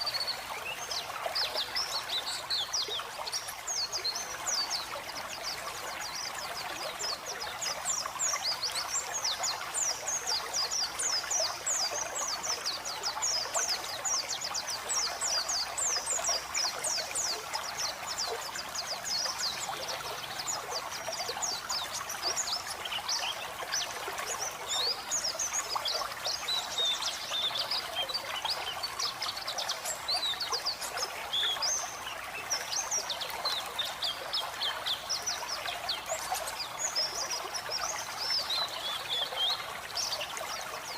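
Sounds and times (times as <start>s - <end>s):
bird twittering song: 0.0s - 40.9s
running water: 0.0s - 40.9s.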